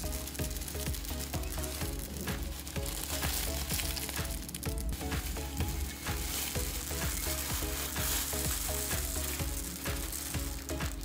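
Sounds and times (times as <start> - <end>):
background music with steady beat: 0.0 - 11.0
foam beads pouring from plastic bag: 0.0 - 11.0.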